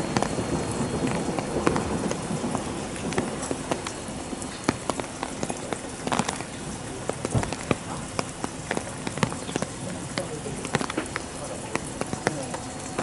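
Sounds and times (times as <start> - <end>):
raindrops ticking close by: 0.0 - 13.0
steady rain hiss: 0.0 - 13.0.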